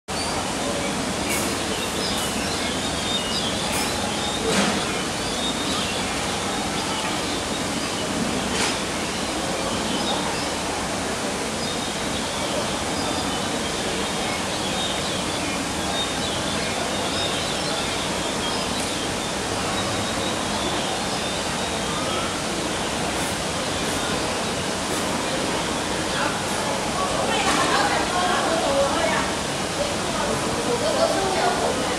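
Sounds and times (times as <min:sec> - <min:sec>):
running water: 0:00.1 - 0:31.9.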